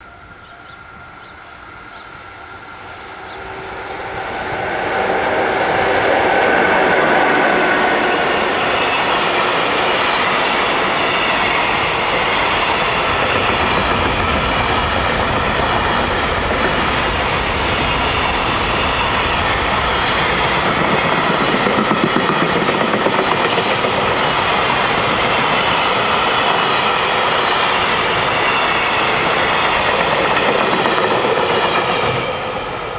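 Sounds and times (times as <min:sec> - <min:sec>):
freight train rumbling past: 0:00.0 - 0:32.9
train wheels clattering: 0:04.3 - 0:32.9.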